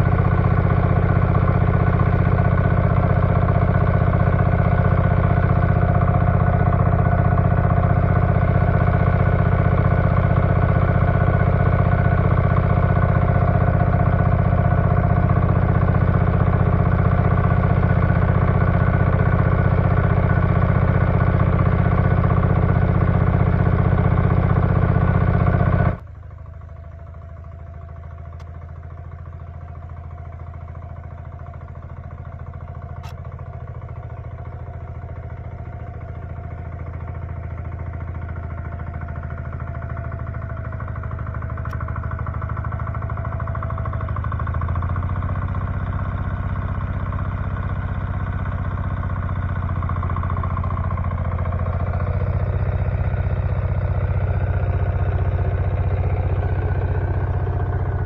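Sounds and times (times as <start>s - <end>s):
walking tractor engine running: 0.0s - 58.0s.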